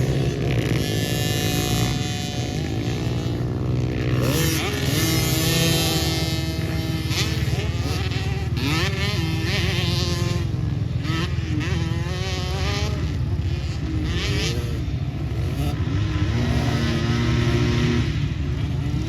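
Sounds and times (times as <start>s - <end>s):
pit bike engines revving: 0.0s - 19.0s.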